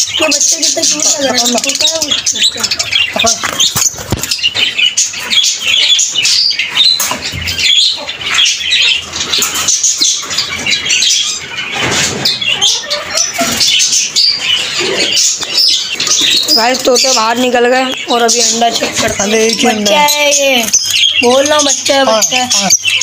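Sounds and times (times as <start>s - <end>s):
birds chattering and squawking: 0.0s - 23.0s.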